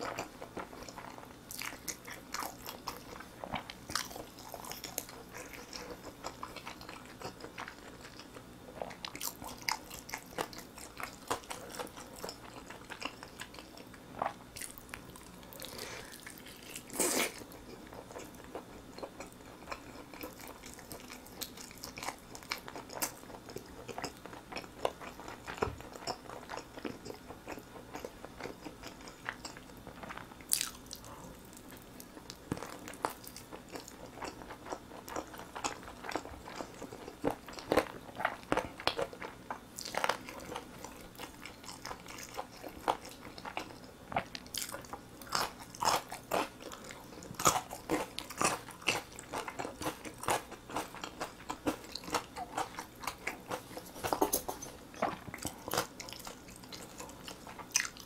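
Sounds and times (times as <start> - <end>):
biting and chewing chicken: 0.0 - 58.0.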